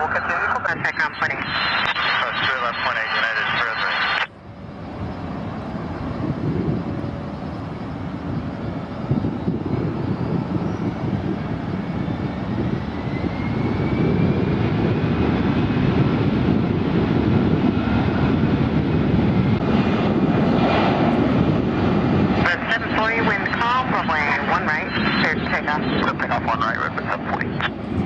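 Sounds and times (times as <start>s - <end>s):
jet engines at high power: 0.0s - 28.0s.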